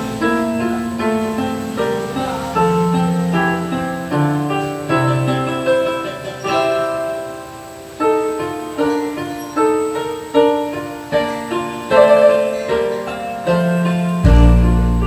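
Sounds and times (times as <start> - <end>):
slow piano playing: 0.0 - 15.0.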